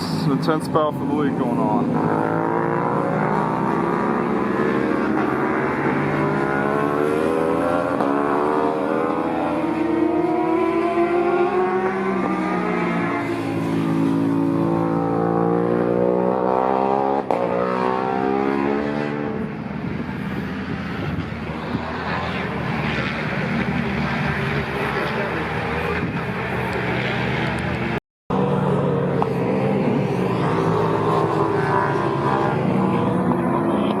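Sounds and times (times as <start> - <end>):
race motorcycles passing: 0.0 - 34.0.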